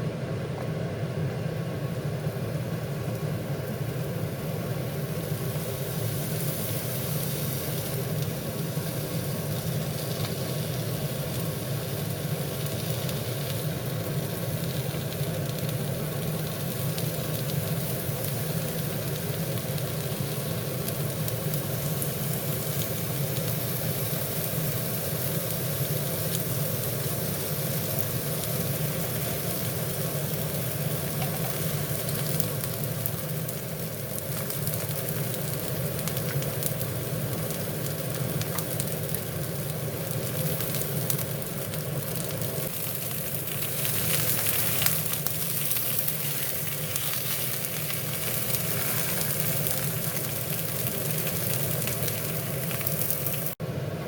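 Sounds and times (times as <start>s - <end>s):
zucchini sizzling in oil: 1.1s - 53.6s.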